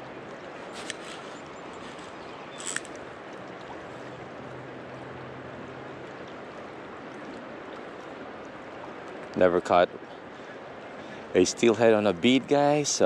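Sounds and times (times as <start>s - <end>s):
river flowing: 0.0s - 13.0s.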